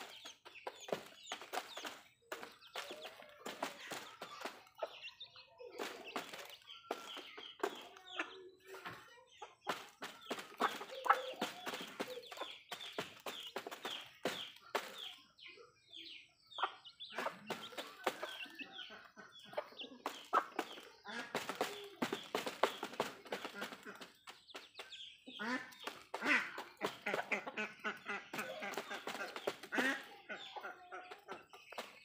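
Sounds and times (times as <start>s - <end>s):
beaks pecking on cardboard and concrete: 0.0s - 32.0s
chickens clucking: 0.0s - 32.0s.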